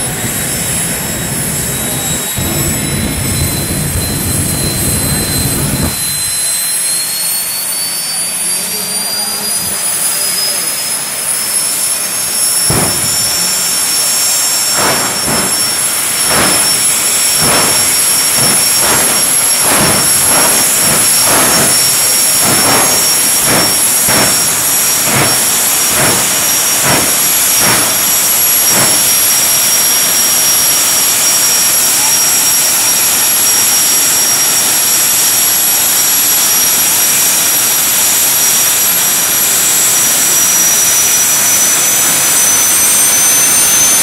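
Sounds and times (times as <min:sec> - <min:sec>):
afterburner bursts: 0:00.0 - 0:07.1, 0:09.7 - 0:44.0
jet turbine high whine: 0:00.0 - 0:44.0.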